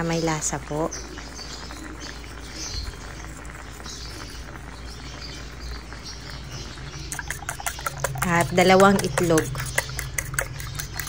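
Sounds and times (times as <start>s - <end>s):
rice and water boiling: 0.0s - 11.0s.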